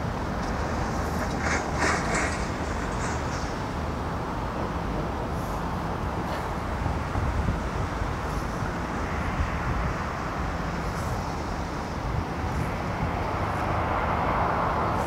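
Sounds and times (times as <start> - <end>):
distant aircraft engine rumble: 0.0 - 15.0.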